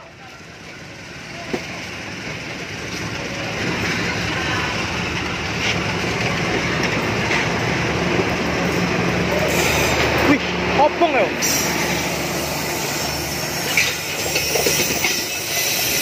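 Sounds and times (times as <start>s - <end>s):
train wheels rolling on rails: 0.0s - 16.0s
wheels clacking over rail joints: 0.3s - 11.6s, 13.0s - 16.0s.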